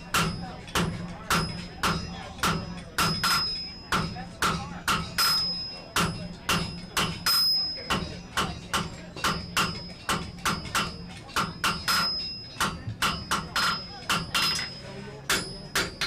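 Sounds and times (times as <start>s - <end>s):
hammer striking iron on anvil: 0.0s - 16.0s.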